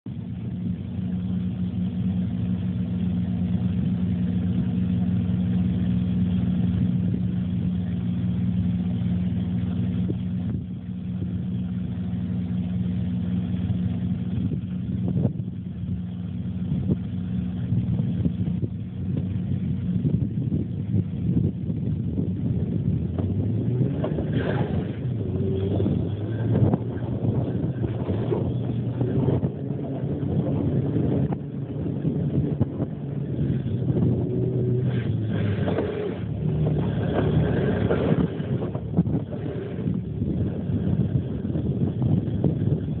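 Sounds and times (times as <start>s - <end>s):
engine running at low speed: 0.0s - 43.0s.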